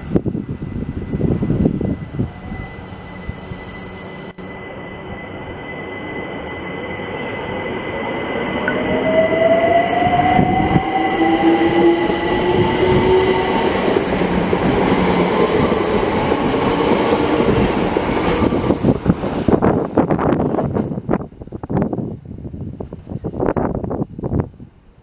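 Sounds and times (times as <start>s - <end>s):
wind buffeting microphone: 0.0s - 4.0s, 8.7s - 25.0s.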